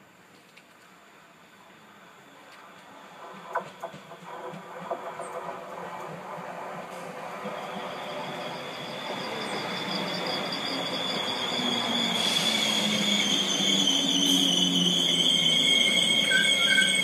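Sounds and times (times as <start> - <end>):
high-pitched train squeal: 2.2 - 17.0
train coaches rumbling: 2.5 - 17.0.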